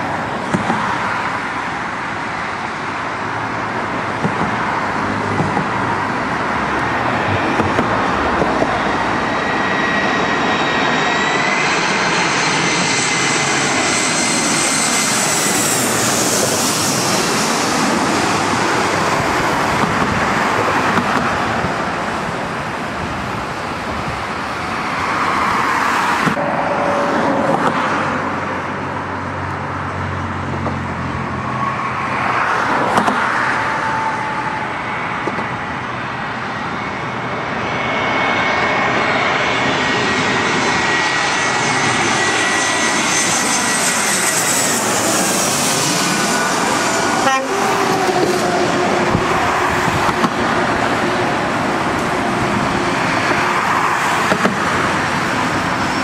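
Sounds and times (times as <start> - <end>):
jet airliner passing overhead: 0.0 - 56.0.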